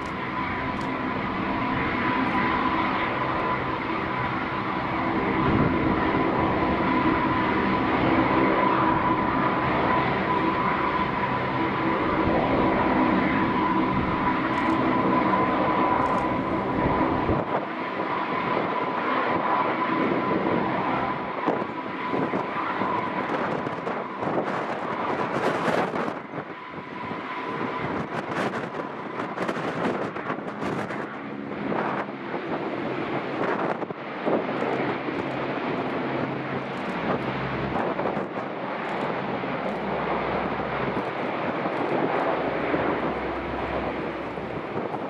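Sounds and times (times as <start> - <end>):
turboprop engines whining: 0.0 - 45.0
wind buffeting microphone: 0.0 - 45.0.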